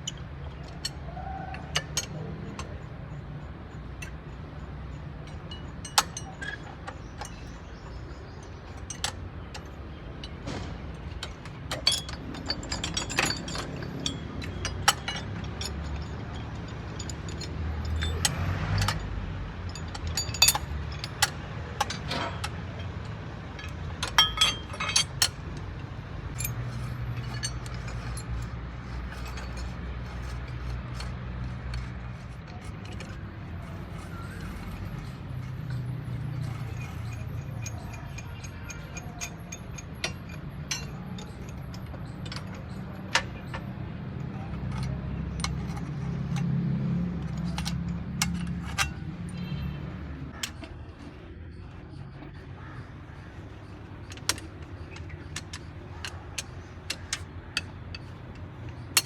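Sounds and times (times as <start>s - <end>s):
metal tools clinking and knocking: 0.0s - 59.0s.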